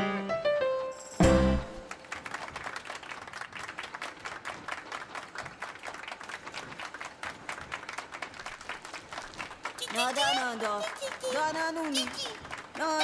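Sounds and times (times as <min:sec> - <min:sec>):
applause: 0:01.8 - 0:13.0.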